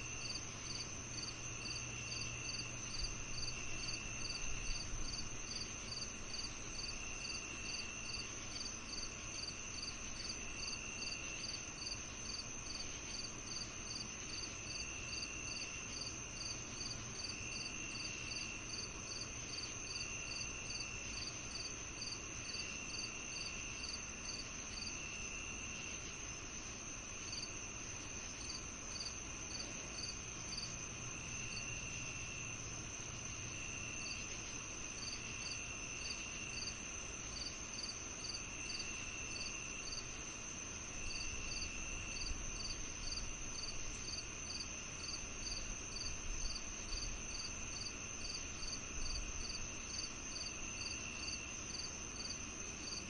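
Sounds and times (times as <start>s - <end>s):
faint low hum: 0.0s - 53.0s
high-pitched cricket trill: 0.0s - 53.0s
insect chirping: 0.0s - 53.0s
lower insect trill: 0.0s - 53.0s.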